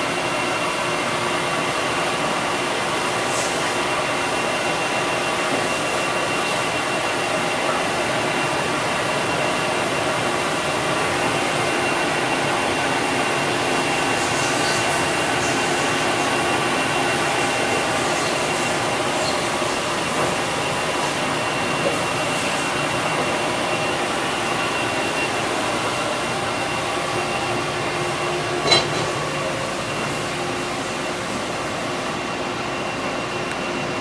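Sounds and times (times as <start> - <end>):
machining center whirring hum: 0.0 - 34.0.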